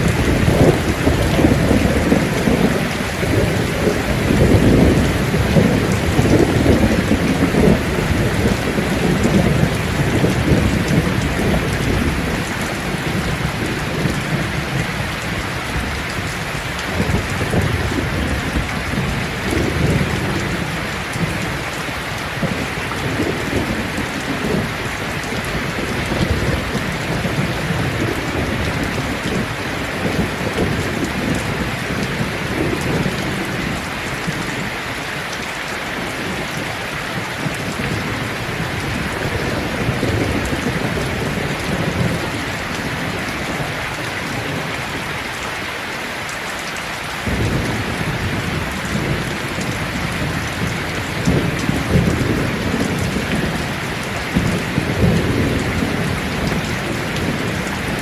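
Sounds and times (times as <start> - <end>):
low rumble of thunder: 0.0 - 34.8, 36.0 - 45.1, 47.2 - 58.0
rain pattering on leaves: 0.0 - 58.0.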